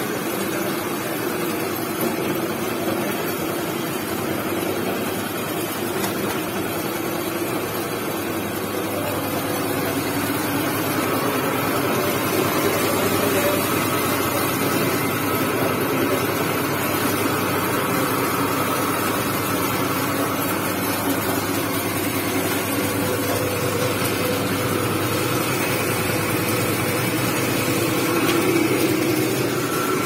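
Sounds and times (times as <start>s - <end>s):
grinder-mixer machine drone: 0.0s - 30.0s.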